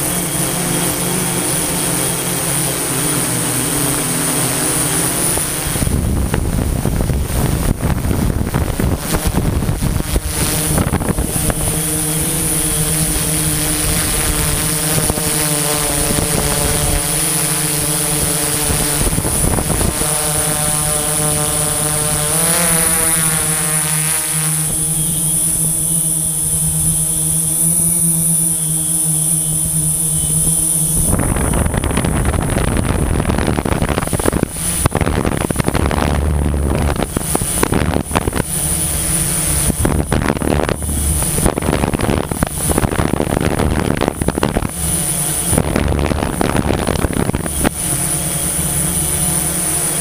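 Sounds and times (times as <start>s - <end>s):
drone motors buzzing: 0.0s - 50.0s
wind noise on microphone: 0.0s - 50.0s.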